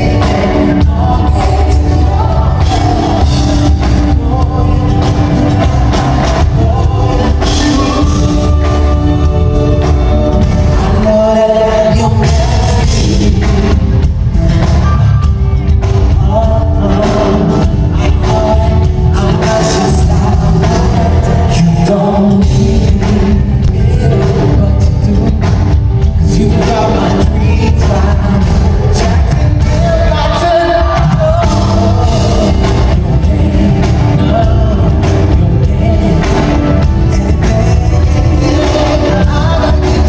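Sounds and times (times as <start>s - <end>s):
band with heavy bass: 0.0s - 40.0s
man singing into a microphone: 0.0s - 40.0s.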